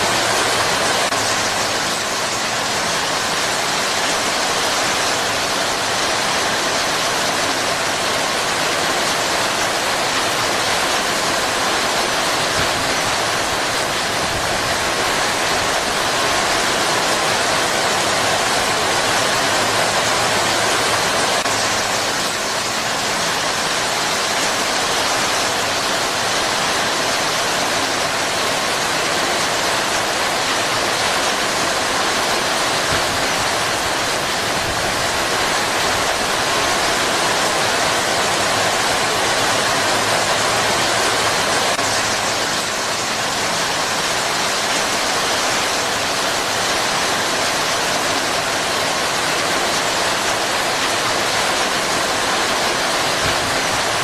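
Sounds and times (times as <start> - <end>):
heavy rain on leaves: 0.0 - 54.0.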